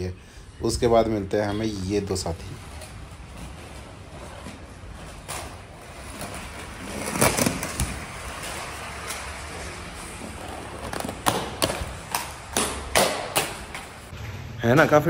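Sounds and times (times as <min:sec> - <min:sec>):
skate wheels rolling on pavement: 0:00.7 - 0:14.2.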